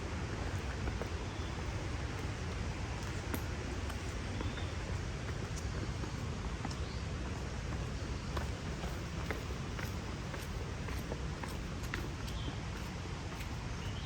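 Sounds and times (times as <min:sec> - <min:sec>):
footsteps on wet trail: 0:00.0 - 0:14.0.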